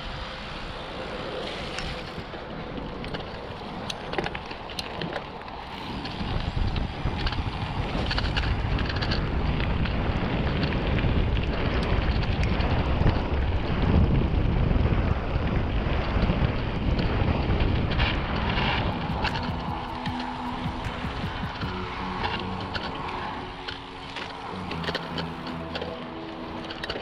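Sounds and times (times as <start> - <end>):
wind rumble on microphone: 0.0 - 27.0
bike clicks and rattles: 1.2 - 27.0.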